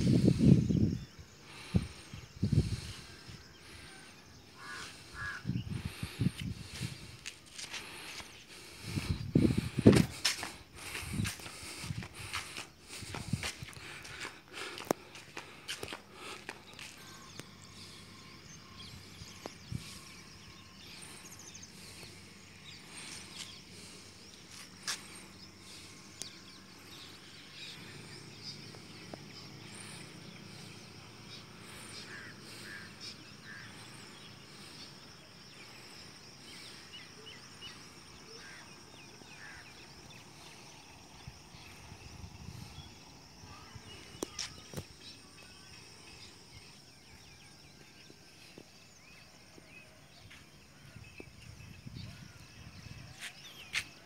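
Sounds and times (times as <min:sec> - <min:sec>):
faint chirps: 0:00.0 - 0:54.0.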